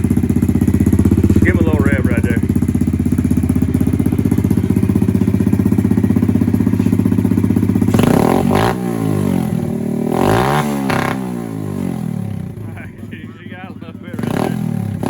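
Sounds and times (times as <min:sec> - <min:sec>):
engine revving: 0:00.0 - 0:15.0
motorcycle engine idling: 0:00.0 - 0:15.0.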